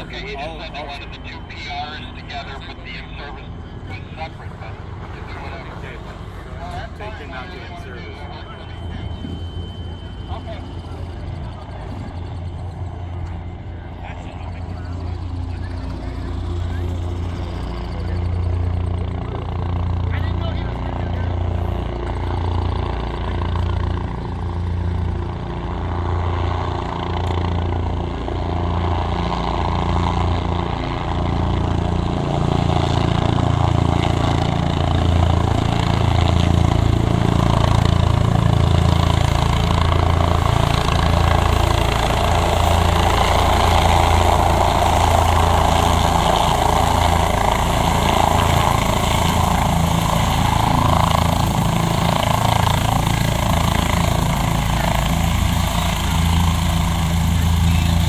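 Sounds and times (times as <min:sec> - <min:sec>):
helicopter engine: 0:00.0 - 0:58.0
helicopter rotor beating: 0:00.0 - 0:58.0.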